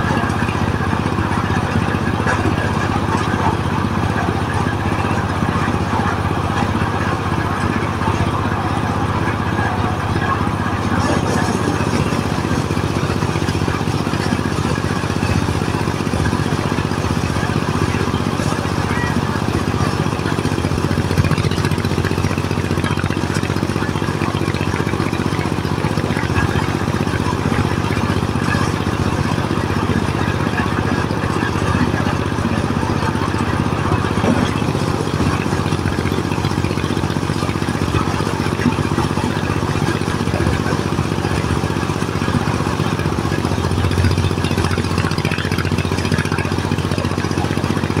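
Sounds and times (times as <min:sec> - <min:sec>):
diesel engine humming: 0:00.0 - 0:48.0.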